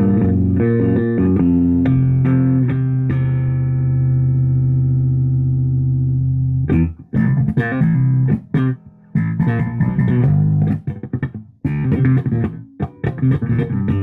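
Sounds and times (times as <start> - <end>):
electric bass notes: 0.0 - 14.0.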